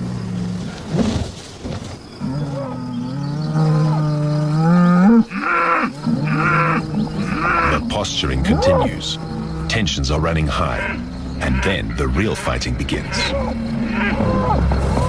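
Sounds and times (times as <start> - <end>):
bull bellowing: 2.2 - 15.0.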